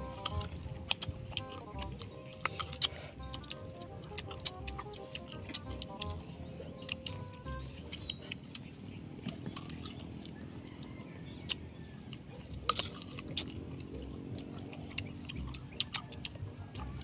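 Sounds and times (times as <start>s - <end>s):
steady low rumble: 0.0s - 10.5s, 12.3s - 17.0s
crunchy bites and chewing: 0.0s - 17.0s.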